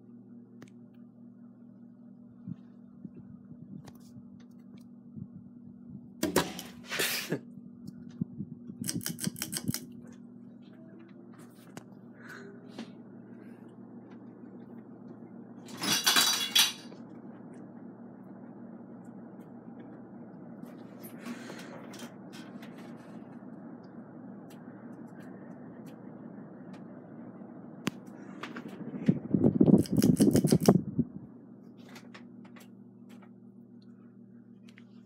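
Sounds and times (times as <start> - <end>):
ceiling fan motor hum: 0.0 - 35.0.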